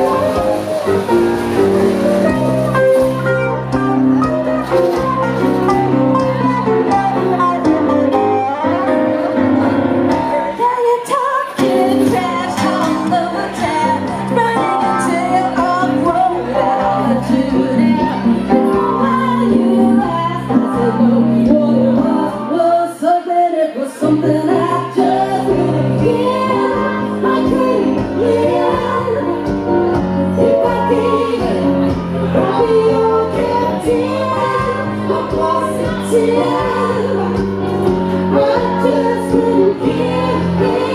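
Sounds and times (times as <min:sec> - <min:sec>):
electric keyboard: 0:00.0 - 0:22.8, 0:24.0 - 0:40.9
acoustic guitar: 0:00.0 - 0:23.0, 0:24.0 - 0:40.9
woman singing: 0:01.9 - 0:09.2, 0:10.1 - 0:40.9.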